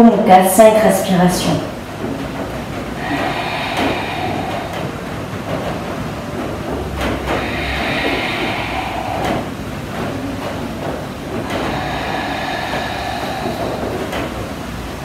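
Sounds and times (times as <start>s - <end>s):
hissing breaths through the throat: 2.0s - 15.0s.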